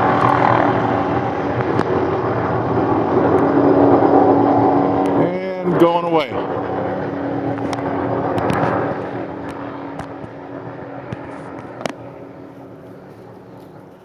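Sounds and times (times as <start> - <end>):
helicopter flying away: 0.0 - 14.0.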